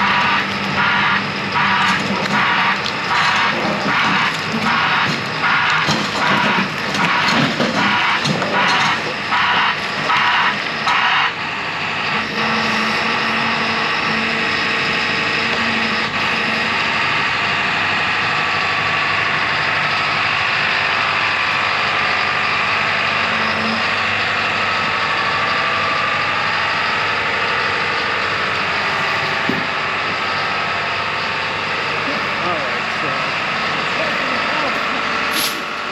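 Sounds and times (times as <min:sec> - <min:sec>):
large diesel engine running: 0:00.0 - 0:35.9.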